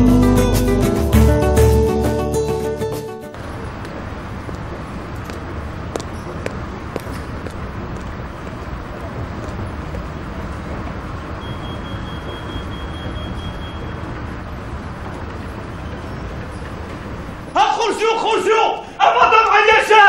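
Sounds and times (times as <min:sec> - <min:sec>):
steady background rumble and hiss: 0:03.3 - 0:20.0.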